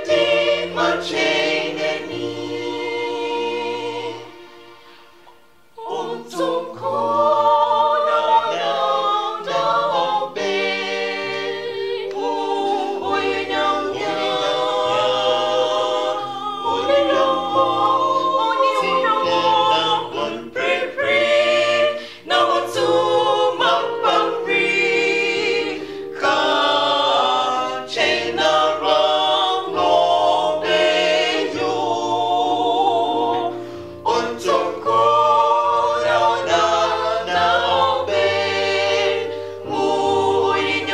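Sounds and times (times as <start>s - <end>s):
vocal group singing in harmony: 0.0s - 40.9s.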